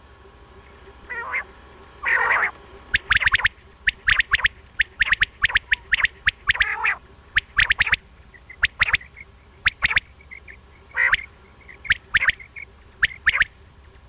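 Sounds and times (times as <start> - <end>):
quail calling high notes: 1.0 - 13.6
harsh rasping bird call: 1.1 - 13.5.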